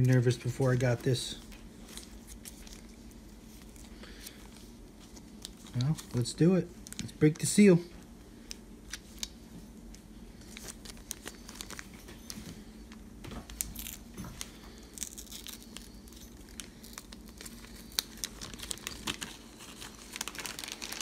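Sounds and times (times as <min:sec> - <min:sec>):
plastic and foil crinkling: 0:00.0 - 0:21.0.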